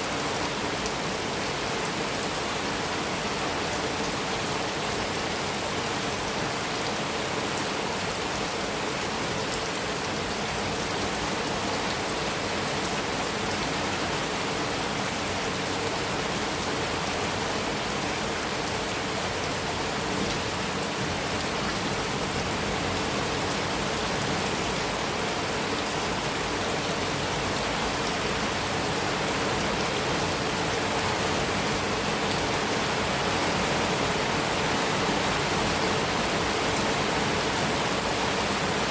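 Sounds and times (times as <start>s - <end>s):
heavy rain on a metal roof: 0.0s - 38.9s.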